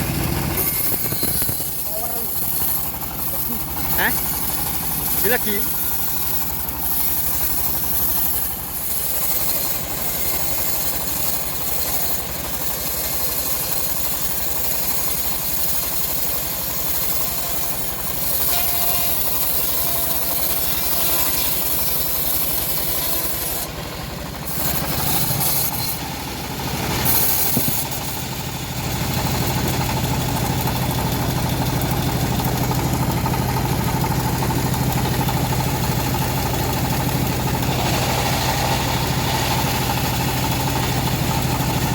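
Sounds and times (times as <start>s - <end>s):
bandsaw mill sawing logs: 0.0s - 41.9s.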